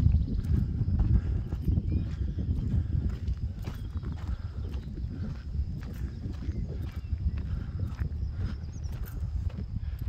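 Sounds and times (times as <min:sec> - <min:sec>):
footsteps on gravel: 0:00.0 - 0:10.0
wind rumble on microphone: 0:00.0 - 0:10.0.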